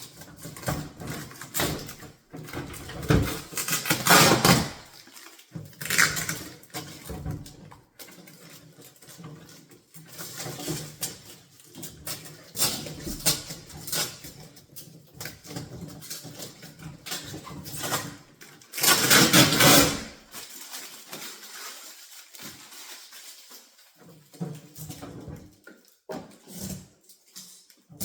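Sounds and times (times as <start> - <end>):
packing material rustling and scraping: 0.0 - 28.0.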